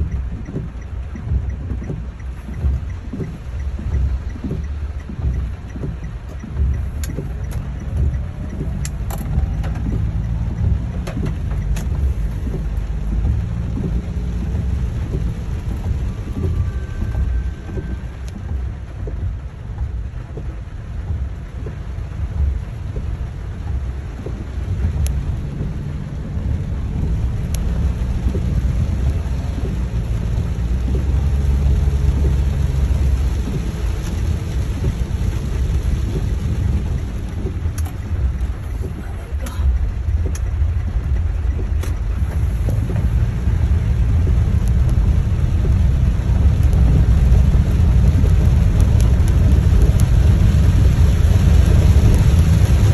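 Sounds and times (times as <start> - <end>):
car rumbling on wet road: 0.0 - 52.9
heavy rain on car roof: 0.0 - 52.9.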